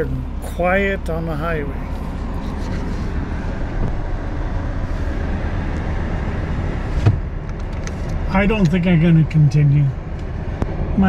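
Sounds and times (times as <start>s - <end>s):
road noise inside truck cab: 0.0s - 11.0s.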